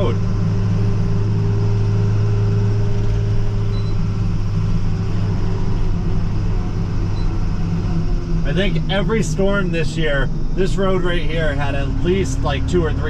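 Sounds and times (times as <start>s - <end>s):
road noise: 0.0s - 13.0s
truck engine hum: 0.0s - 13.0s.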